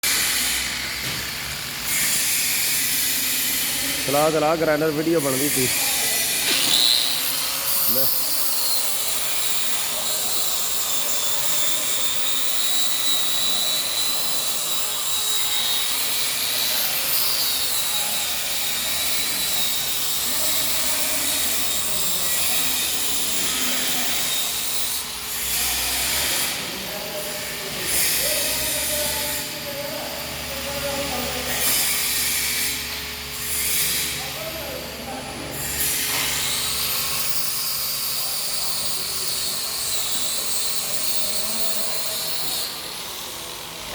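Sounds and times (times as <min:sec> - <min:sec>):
angle grinder buffing pipe: 0:00.0 - 0:43.9.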